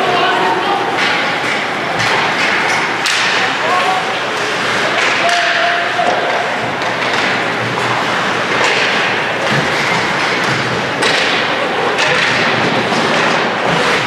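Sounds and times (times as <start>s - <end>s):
rink and crowd noise hiss: 0.0s - 14.0s.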